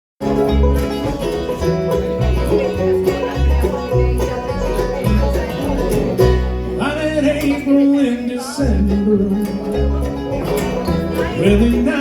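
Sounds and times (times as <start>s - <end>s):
pulsing bass line: 0.2s - 7.9s, 8.6s - 12.0s
plucked strings: 0.2s - 12.0s.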